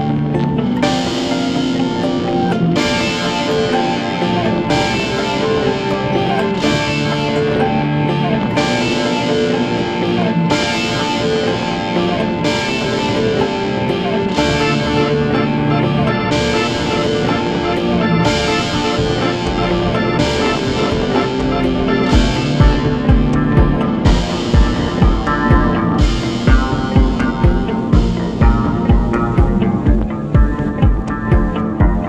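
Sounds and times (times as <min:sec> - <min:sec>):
guitar music: 0:00.0 - 0:32.0.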